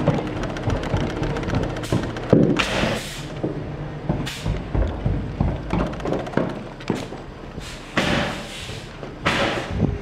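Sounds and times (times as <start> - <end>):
knocks and thuds: 0.0 - 8.4, 9.2 - 9.8
crane engine humming: 0.0 - 10.0.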